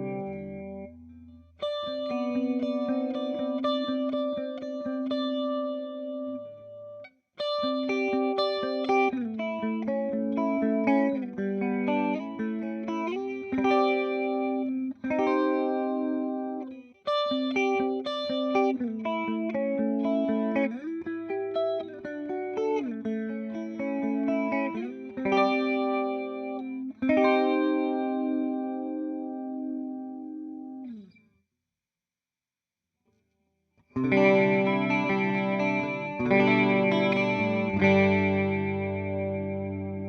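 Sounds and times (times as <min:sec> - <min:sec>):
electric guitar with chorus: 0:00.0 - 0:31.2, 0:33.9 - 0:40.0.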